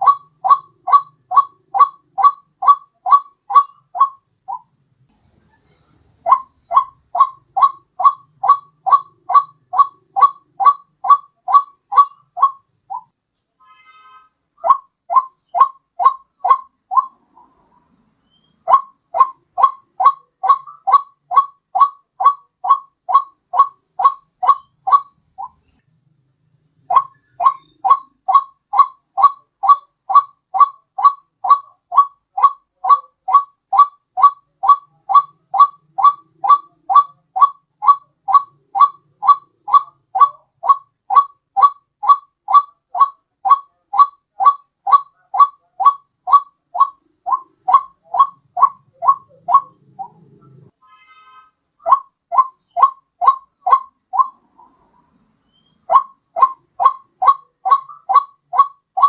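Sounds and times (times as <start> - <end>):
bird calling in rapid notes: 0.0 - 4.7, 6.2 - 13.2, 14.6 - 25.8, 26.8 - 59.0.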